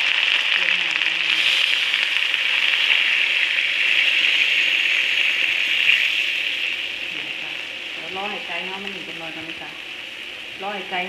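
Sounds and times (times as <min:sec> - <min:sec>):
hot wok sizzling: 0:00.0 - 0:11.0.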